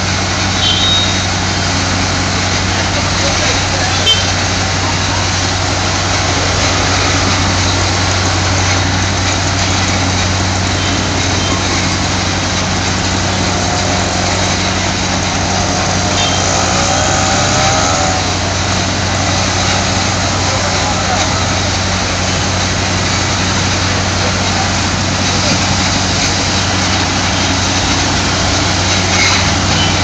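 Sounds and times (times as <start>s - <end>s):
engine hum: 0.0s - 30.0s.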